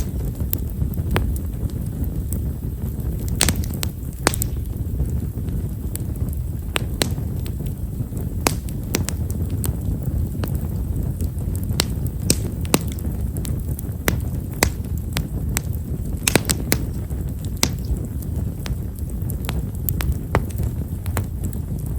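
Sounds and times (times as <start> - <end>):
flames rushing: 0.0 - 21.9
wood fire popping: 0.0 - 21.9.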